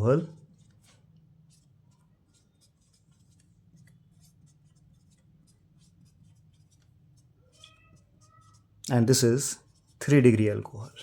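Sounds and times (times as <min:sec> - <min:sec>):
pen scratching while writing: 0:00.5 - 0:10.3.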